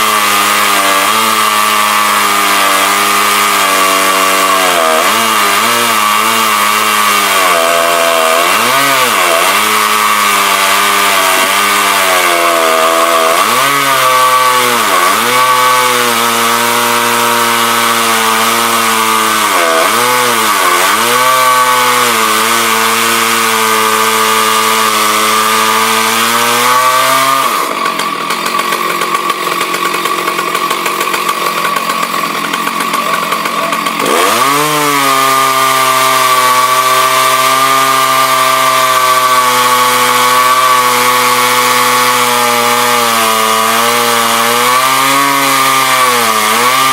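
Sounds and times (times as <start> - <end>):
chainsaw cutting timber: 0.0 - 46.9.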